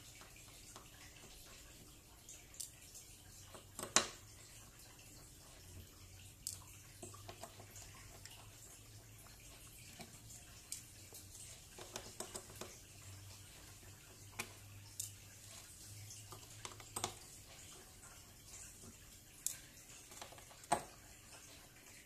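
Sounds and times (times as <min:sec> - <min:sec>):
clicks and light taps: 0:00.1 - 0:04.4, 0:05.2 - 0:22.0.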